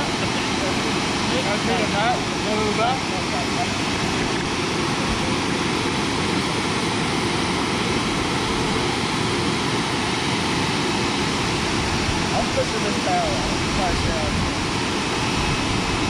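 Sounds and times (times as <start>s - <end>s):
water pouring over dam spillway: 0.0s - 16.0s.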